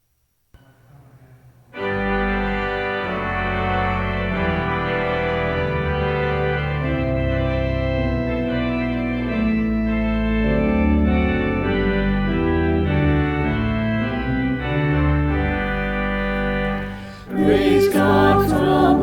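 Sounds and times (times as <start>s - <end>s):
church organ chords: 1.7s - 19.0s.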